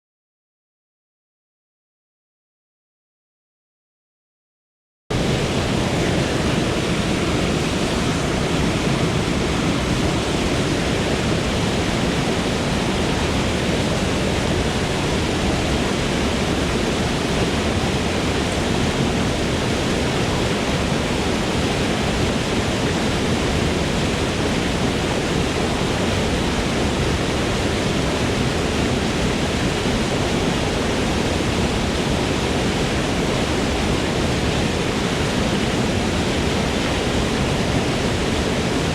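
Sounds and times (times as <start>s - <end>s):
waterfall roar: 5.1s - 38.9s.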